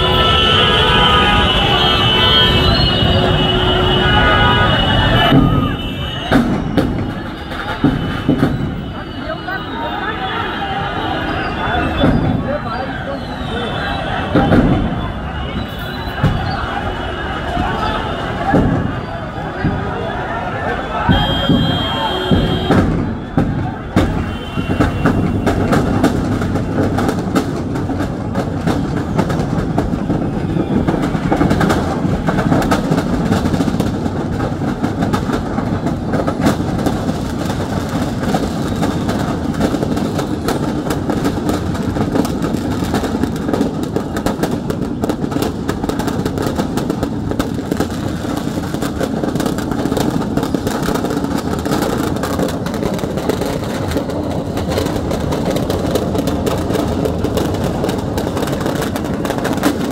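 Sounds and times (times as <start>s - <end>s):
firecrackers crackling and popping: 0.0s - 59.9s.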